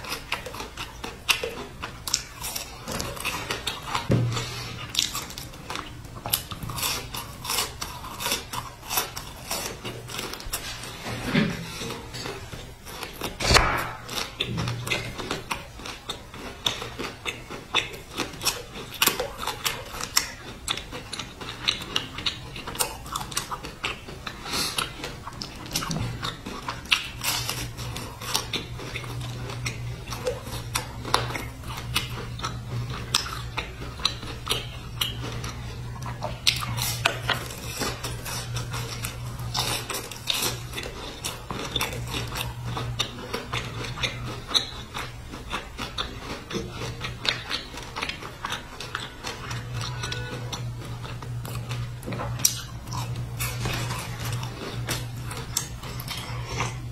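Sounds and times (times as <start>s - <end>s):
crunching biscuits: 0.0s - 56.9s
low steady hum: 0.0s - 56.9s.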